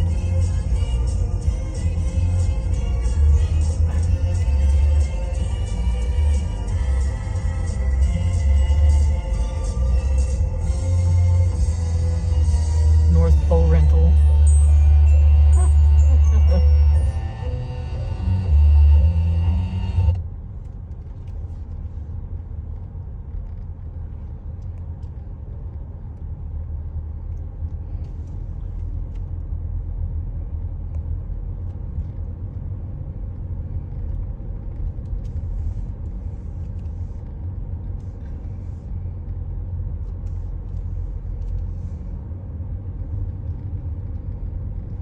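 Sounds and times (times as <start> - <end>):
car interior low rumble: 0.0 - 45.0.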